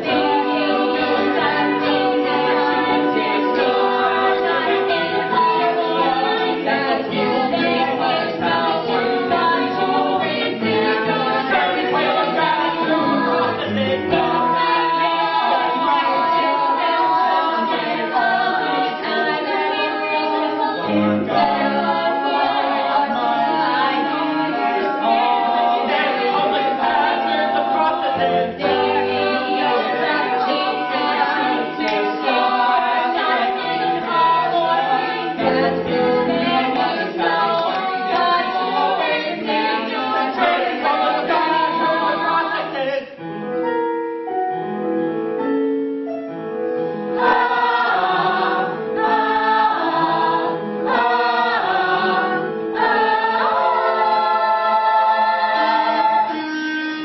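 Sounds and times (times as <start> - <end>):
chorus singing: 0.0 - 43.6, 46.6 - 57.0.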